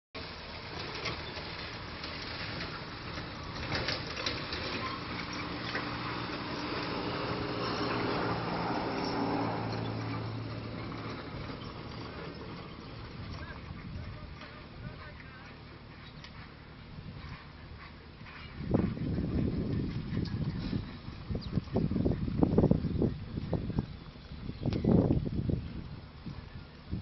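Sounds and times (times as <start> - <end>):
constant rushing noise: 0.2 - 27.0
low engine-like hum: 0.2 - 27.0.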